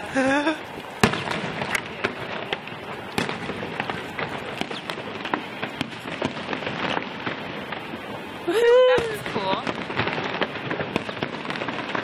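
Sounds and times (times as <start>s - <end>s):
firework bang: 0.0s - 12.0s
fireworks popping and crackling: 0.0s - 12.0s.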